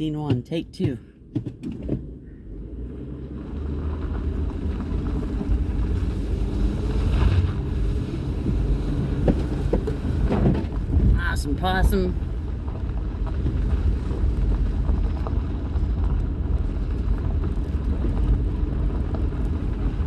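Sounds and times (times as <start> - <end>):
vehicle engine running: 0.0 - 20.0
wind noise: 3.8 - 20.0.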